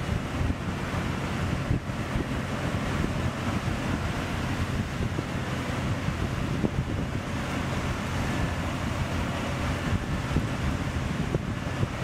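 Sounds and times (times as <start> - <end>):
low engine rumble: 0.0 - 12.0
wind buffeting microphone: 0.0 - 12.0.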